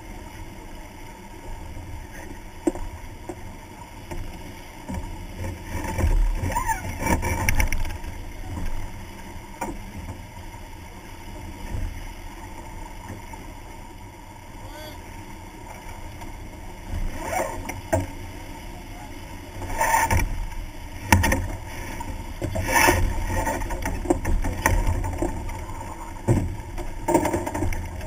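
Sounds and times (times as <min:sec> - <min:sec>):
water rushing along hull: 0:00.0 - 0:28.0.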